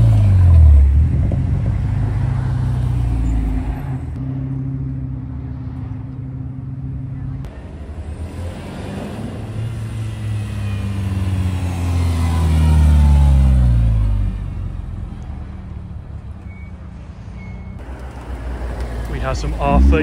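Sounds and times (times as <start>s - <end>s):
car engine and exhaust passing: 0.0s - 20.0s.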